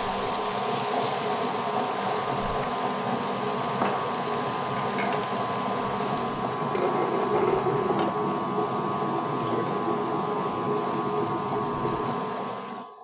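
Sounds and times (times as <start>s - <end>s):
wet grinder running: 0.0s - 12.8s.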